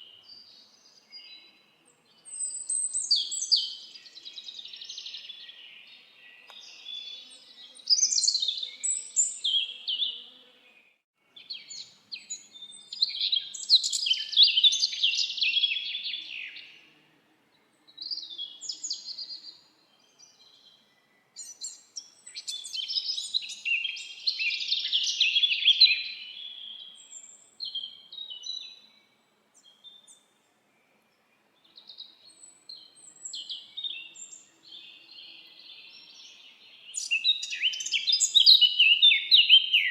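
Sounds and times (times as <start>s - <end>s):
songbirds twittering: 0.0s - 10.4s, 11.4s - 16.9s, 17.6s - 39.9s.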